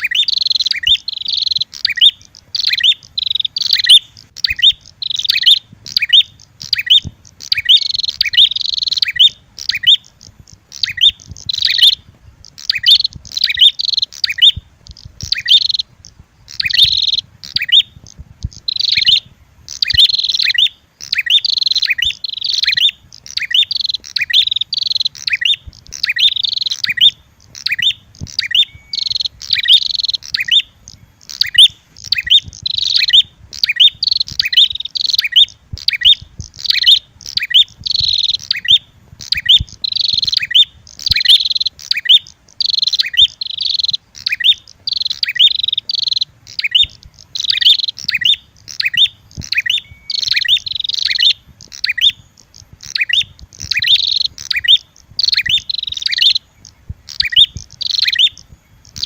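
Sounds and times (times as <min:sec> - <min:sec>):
high chattering bird chirps: 0:00.0 - 0:59.0.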